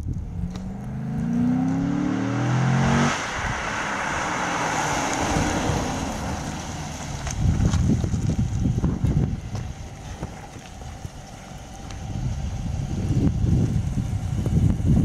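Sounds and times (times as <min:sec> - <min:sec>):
car engine accelerating: 0:00.0 - 0:15.0
tyre and wind noise: 0:00.0 - 0:15.0.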